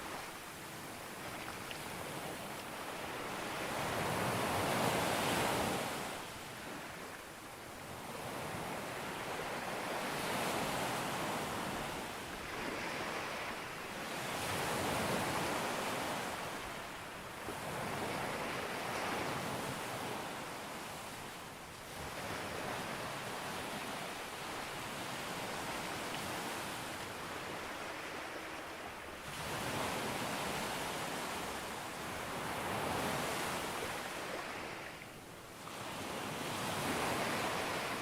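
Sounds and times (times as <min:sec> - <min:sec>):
ocean waves breaking on beach: 0:00.0 - 0:38.0.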